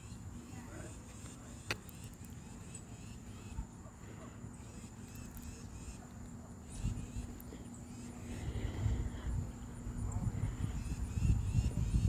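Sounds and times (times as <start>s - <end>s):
steady high-pitched hum: 0.0s - 12.0s.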